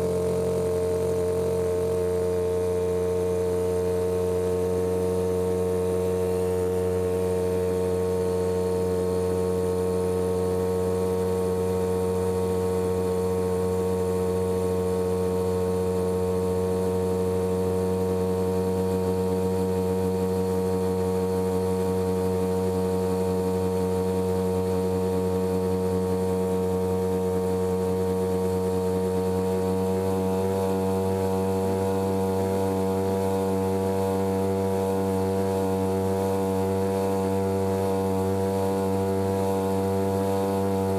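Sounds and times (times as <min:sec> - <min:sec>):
small outboard motor running: 0:00.0 - 0:40.9.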